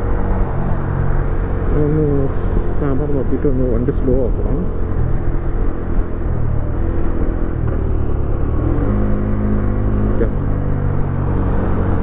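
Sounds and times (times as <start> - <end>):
wind and road rush: 0.0 - 12.0.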